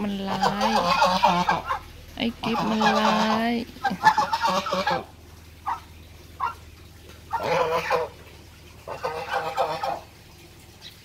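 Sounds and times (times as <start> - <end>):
young geese honking: 0.1 - 10.2.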